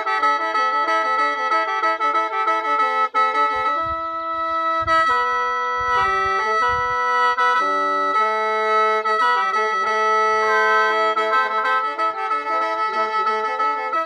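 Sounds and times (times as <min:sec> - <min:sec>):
bamboo mouth organ playing: 0:00.0 - 0:14.0.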